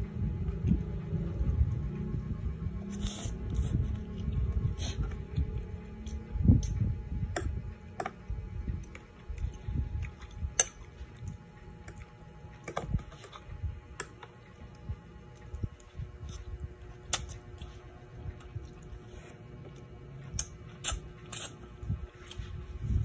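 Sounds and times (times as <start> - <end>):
low rumbling noise: 0.0 - 20.4, 21.6 - 23.0.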